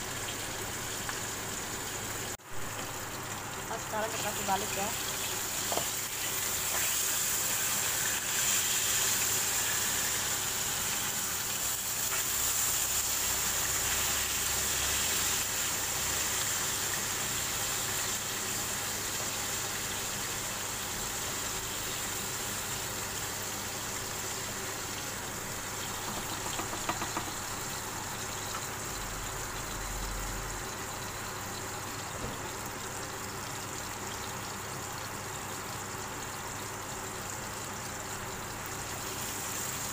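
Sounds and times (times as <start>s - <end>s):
fish sizzling in oil: 0.0s - 39.9s.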